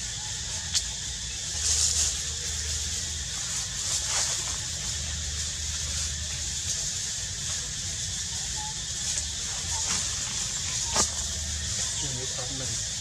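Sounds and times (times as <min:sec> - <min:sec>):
constant high hiss: 0:00.0 - 0:13.0.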